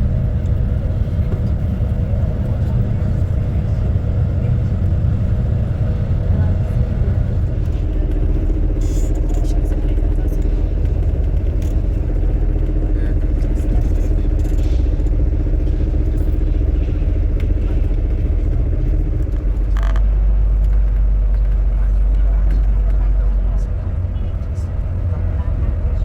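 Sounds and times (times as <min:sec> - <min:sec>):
low engine rumble: 0:00.0 - 0:26.0.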